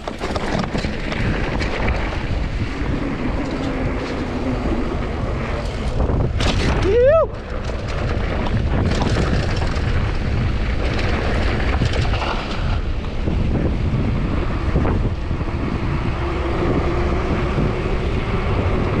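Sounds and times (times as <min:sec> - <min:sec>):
bike rattling over rough ground: 0:00.0 - 0:19.0
tyres on dirt: 0:00.0 - 0:19.0
wind buffeting microphone: 0:00.0 - 0:19.0.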